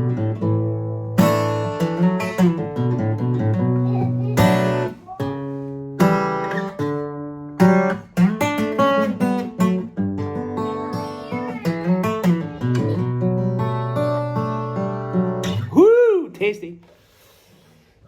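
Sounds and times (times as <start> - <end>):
acoustic guitar strumming chords: 0.0 - 15.8.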